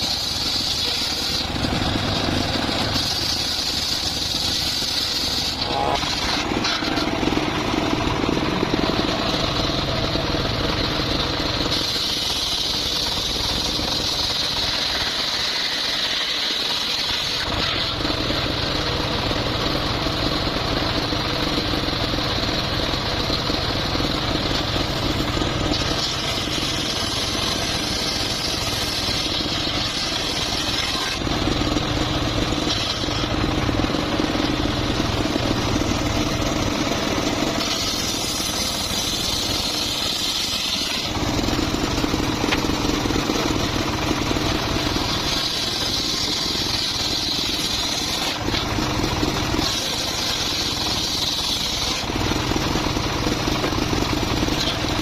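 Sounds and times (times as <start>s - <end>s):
circular saw cutting wood: 0.0s - 55.0s.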